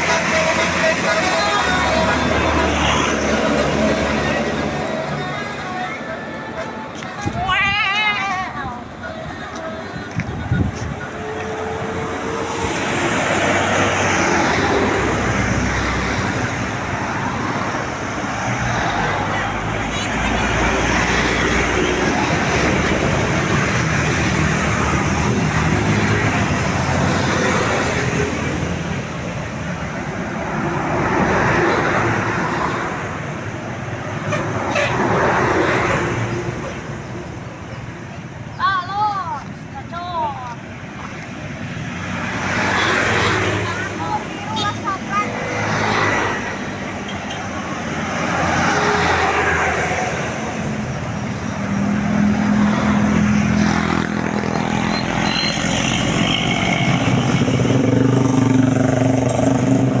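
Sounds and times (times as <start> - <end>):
bus engine droning: 0.0 - 41.9, 46.5 - 60.0
road traffic passing: 0.0 - 60.0.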